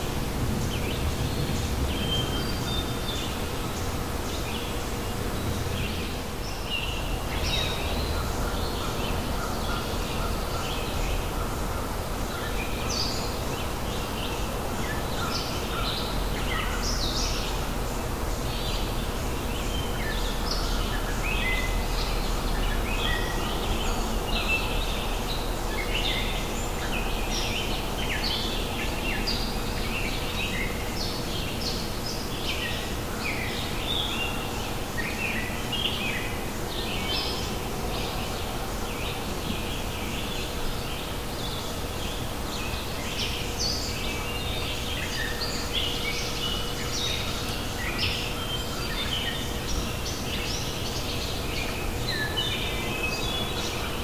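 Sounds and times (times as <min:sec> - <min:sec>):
background hiss and low rumble: 0:00.0 - 0:54.0.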